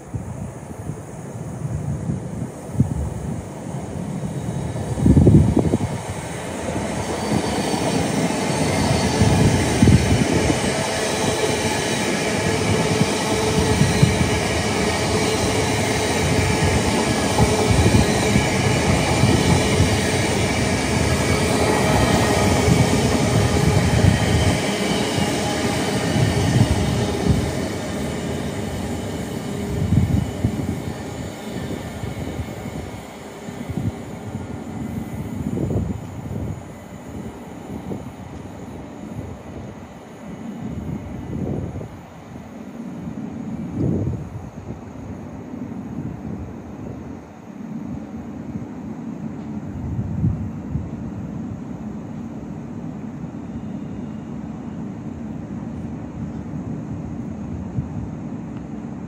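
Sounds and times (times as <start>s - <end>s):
train wheels on rail: 0.0s - 59.0s.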